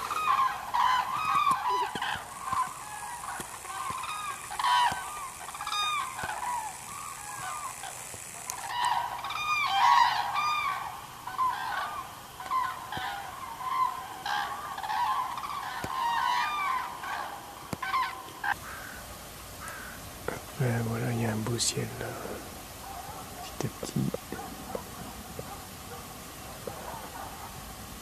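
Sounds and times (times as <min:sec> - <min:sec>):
flock of cranes calling: 0:00.0 - 0:28.0.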